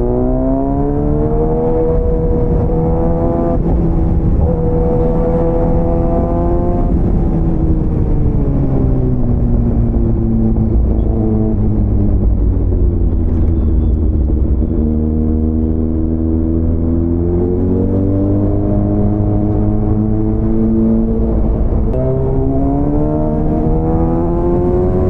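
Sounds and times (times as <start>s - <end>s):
motorcycle engine and exhaust: 0.0s - 25.0s.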